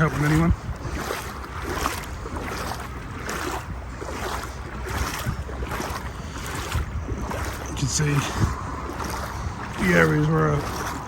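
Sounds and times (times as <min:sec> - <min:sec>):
wading through water: 0:00.0 - 0:11.0
wind on microphone: 0:00.0 - 0:11.0.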